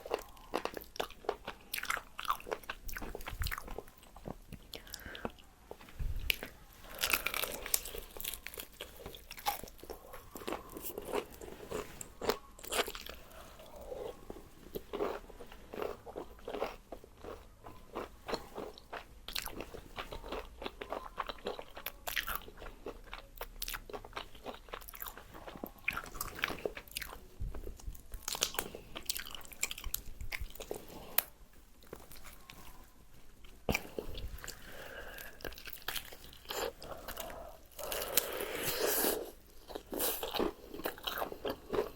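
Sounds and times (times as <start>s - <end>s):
crunchy chewing of fried chicken: 0.0s - 41.9s.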